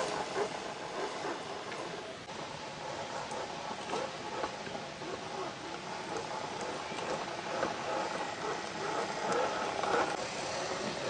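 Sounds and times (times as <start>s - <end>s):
rc car motor and gears whining: 0.0s - 11.0s.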